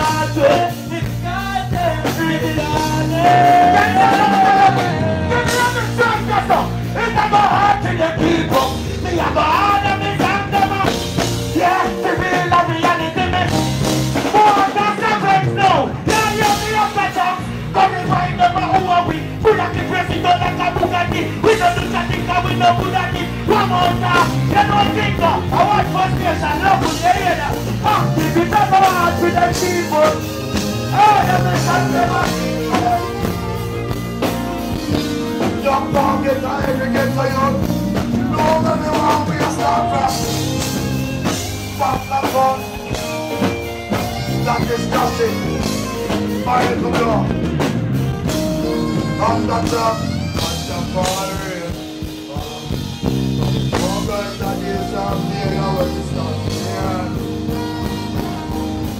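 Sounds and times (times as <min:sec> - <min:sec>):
saxophone: 0:00.0 - 0:14.7, 0:16.1 - 0:58.9
live band music: 0:00.0 - 0:58.9.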